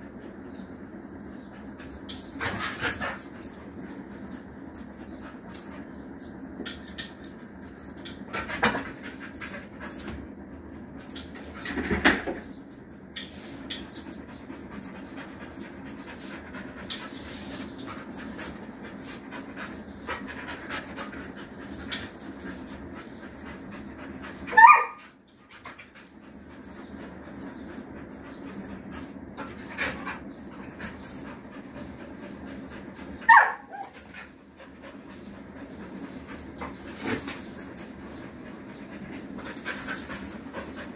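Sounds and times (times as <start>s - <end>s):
dog panting: 7.1s - 40.9s.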